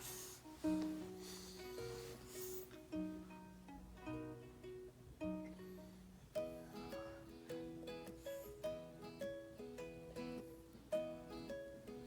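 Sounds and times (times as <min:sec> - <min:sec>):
plucked string instrument melody: 0:00.0 - 0:12.0.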